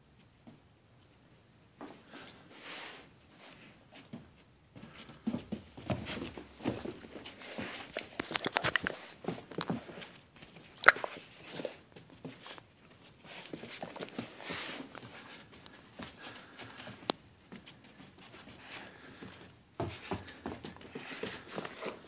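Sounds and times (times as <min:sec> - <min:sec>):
dogs play-wrestling on carpet: 0:01.8 - 0:22.0.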